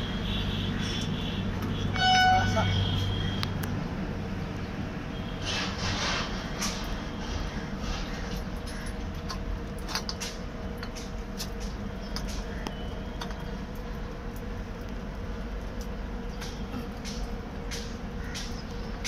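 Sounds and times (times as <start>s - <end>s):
idling railway machinery rumble: 0.0s - 19.0s.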